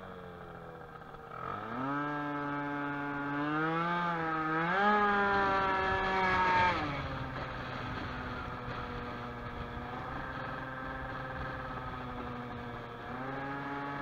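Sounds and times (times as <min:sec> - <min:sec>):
scooter two-stroke engine revving: 0:00.0 - 0:14.0.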